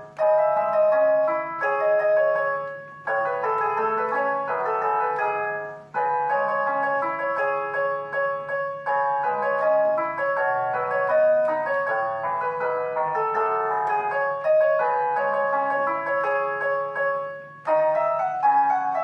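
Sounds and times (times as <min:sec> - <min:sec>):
piano melody on keyboard: 0:00.0 - 0:19.0.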